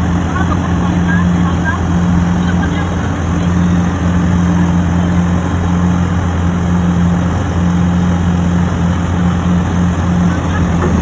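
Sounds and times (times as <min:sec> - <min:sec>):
excavator diesel engine humming: 0:00.0 - 0:11.0.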